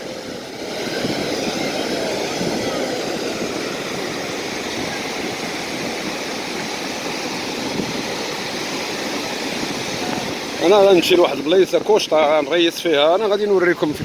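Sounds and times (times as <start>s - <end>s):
small waves breaking on beach: 0.0s - 14.0s.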